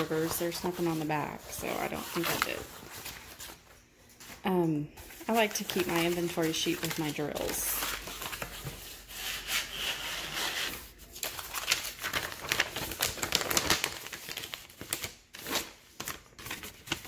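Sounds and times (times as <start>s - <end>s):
paper crinkling and rustling: 0.0s - 4.4s, 5.0s - 17.0s.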